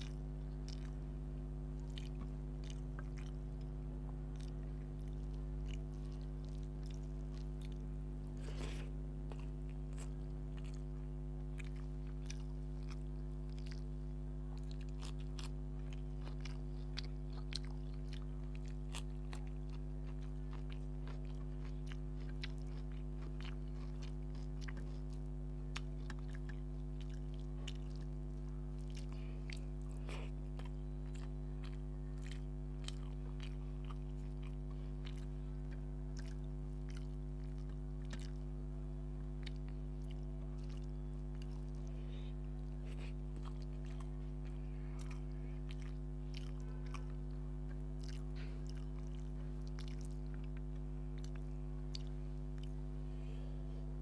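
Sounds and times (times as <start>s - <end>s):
person chewing food: 0.0s - 54.0s
steady low hum: 0.0s - 54.0s.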